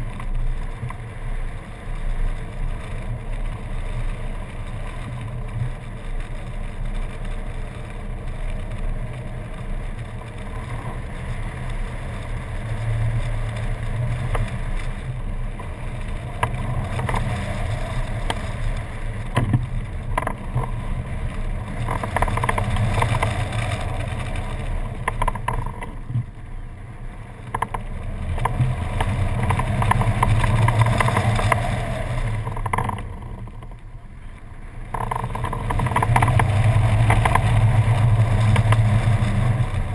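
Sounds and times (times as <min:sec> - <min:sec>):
wind rushing and buffeting: 0:00.0 - 0:39.9.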